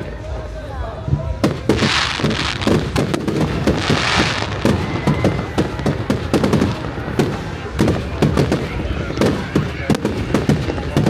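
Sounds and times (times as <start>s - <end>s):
fireworks bangs: 1.2s - 11.0s
fireworks hissing: 1.5s - 11.0s.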